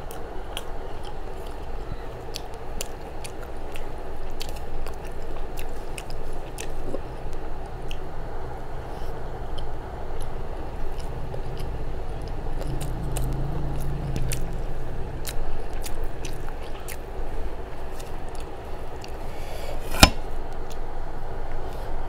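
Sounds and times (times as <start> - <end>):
close chewing: 0.0 - 8.1, 8.9 - 19.4.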